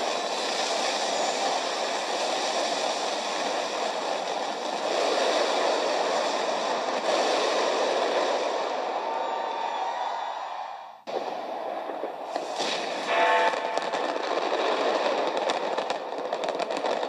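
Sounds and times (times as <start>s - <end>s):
fireworks and crowd roar: 0.0s - 17.0s.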